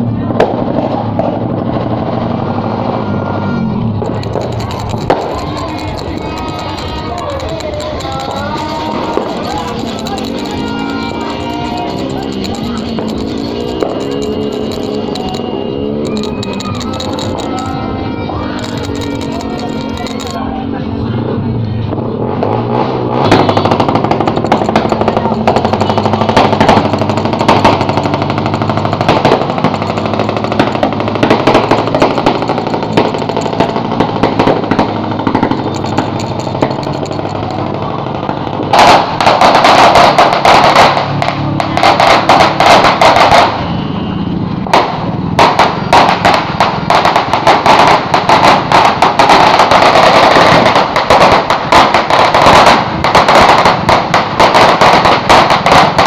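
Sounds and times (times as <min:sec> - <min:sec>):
firecrackers popping: 0:04.0 - 0:17.8, 0:23.1 - 0:43.8, 0:44.6 - 0:56.0.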